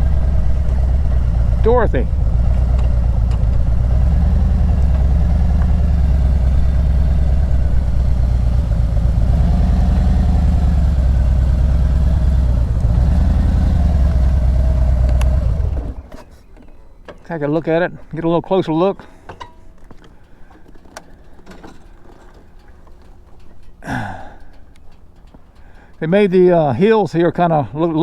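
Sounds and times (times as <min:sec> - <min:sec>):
car engine humming: 0:00.0 - 0:17.4, 0:19.5 - 0:27.0.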